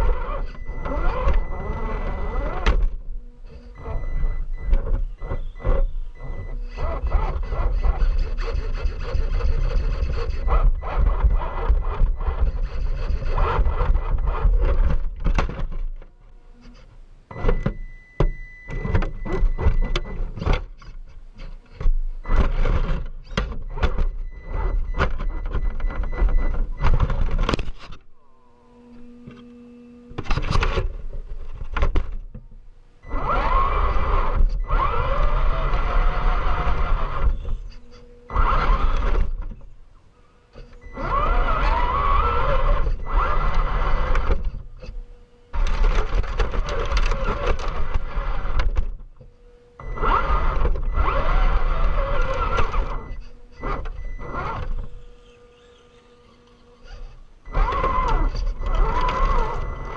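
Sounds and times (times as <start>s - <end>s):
electric motor and gears whining: 0.0s - 32.4s, 33.0s - 59.9s.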